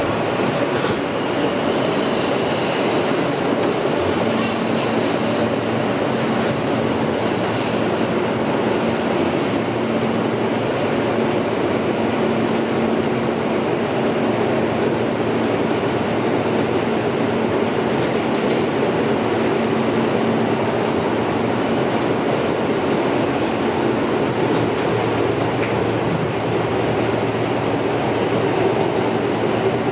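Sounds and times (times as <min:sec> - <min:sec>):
wheels rumbling on rail: 0:00.0 - 0:29.9.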